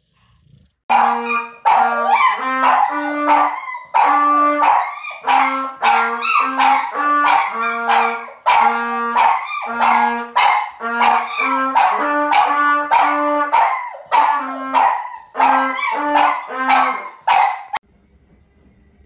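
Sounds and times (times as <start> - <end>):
trumpet short notes: 0.9 - 17.1
dog howling: 0.9 - 17.8.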